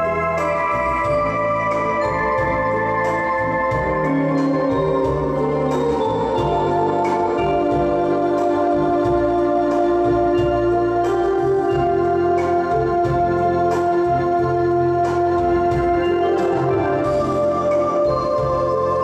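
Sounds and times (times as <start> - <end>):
electronic keyboard chords: 0.0 - 19.0.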